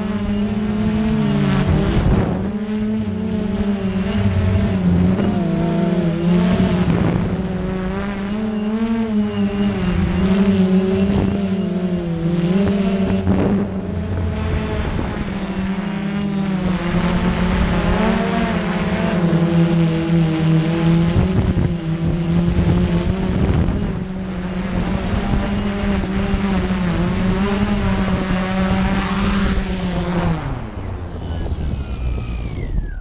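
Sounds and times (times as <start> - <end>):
drone propellers humming: 0.0 - 33.0.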